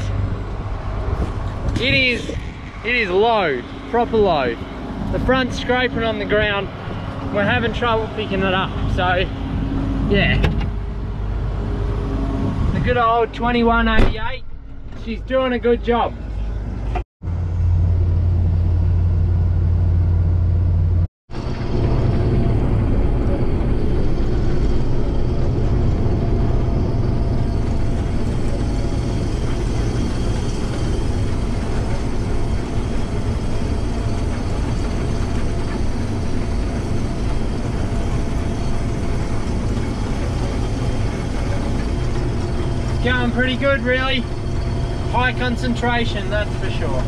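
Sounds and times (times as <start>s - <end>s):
combine harvester droning: 0.0s - 47.0s.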